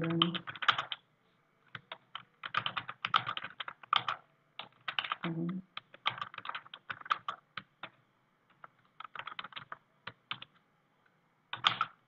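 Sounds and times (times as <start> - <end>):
typing on computer keyboard: 0.0 - 1.0, 1.7 - 10.6, 11.5 - 12.0.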